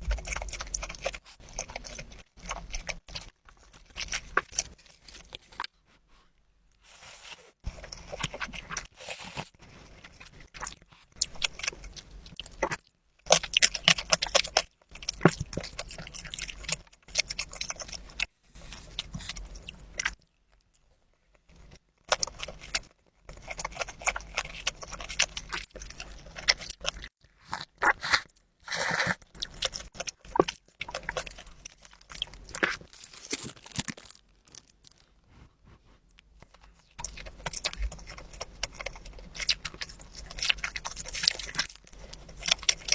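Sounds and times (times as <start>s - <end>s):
wet chewing and mouth noises: 0.0s - 42.9s.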